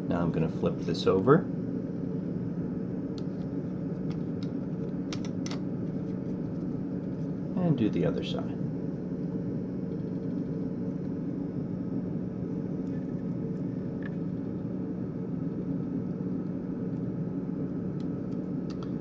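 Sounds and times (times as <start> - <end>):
low fan hum: 0.0 - 19.0.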